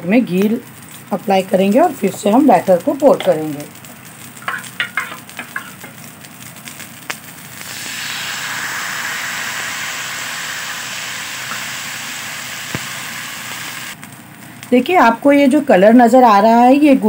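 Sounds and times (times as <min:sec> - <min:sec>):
batter sizzling on a griddle: 0:00.0 - 0:16.6.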